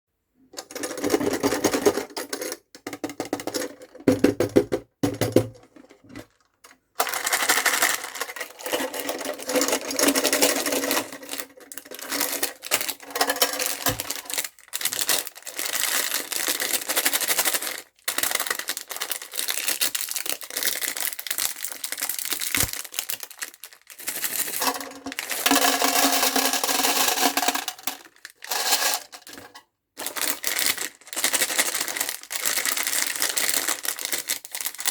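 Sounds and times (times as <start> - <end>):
candy rattling in metal box: 0.6 - 4.6, 7.0 - 34.9.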